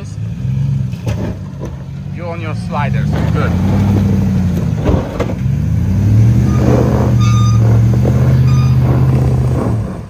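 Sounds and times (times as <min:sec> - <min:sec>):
off-road engine revving: 0:00.0 - 0:10.0.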